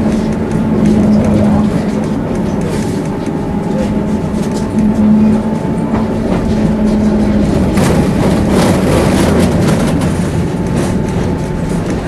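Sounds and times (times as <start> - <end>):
tram humming and rumbling: 0.0 - 12.0
tram rattling: 0.0 - 12.0.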